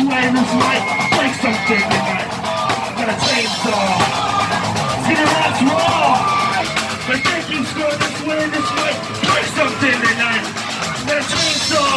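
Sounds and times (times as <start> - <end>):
drum kit beat: 0.0 - 11.9
electric guitar: 0.0 - 11.9.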